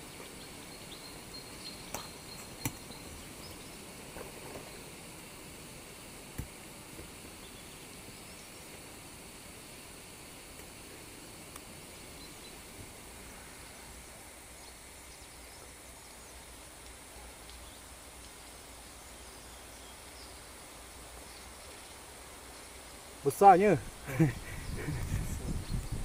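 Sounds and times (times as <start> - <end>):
faint high hiss: 0.0 - 26.0.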